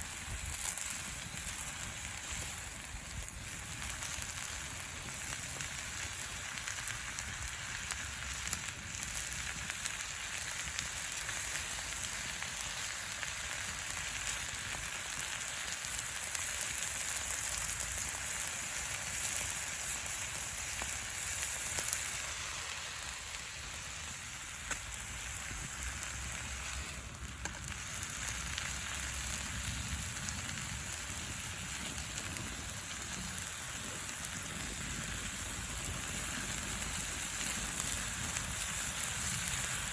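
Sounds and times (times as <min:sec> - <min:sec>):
campfire wood crackling: 0:00.0 - 0:39.9
food sizzling in a pan: 0:00.0 - 0:39.9.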